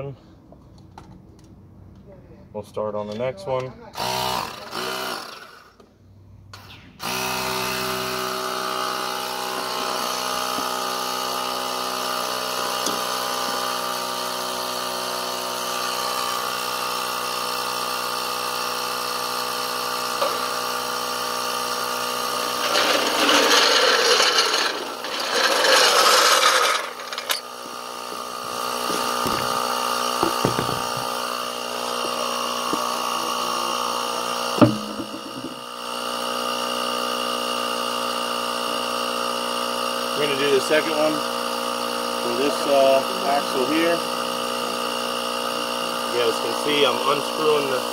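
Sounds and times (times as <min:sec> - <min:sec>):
tire inflator pumping air: 0:06.6 - 0:47.9.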